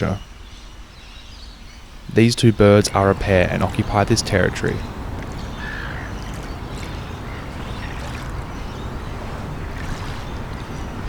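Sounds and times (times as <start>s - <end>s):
wind: 0.0s - 11.0s
lapping river water: 2.0s - 11.0s.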